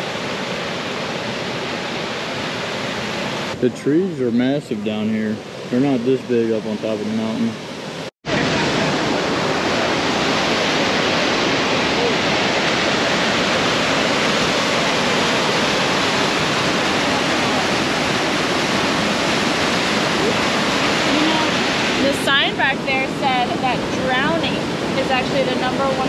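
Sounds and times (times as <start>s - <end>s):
whitewater rushing through gorge: 0.0s - 7.5s, 8.3s - 26.0s.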